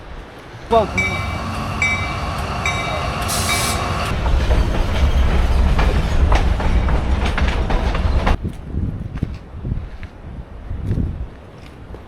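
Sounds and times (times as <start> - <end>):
train rumble with rail clatter: 0.0 - 12.0.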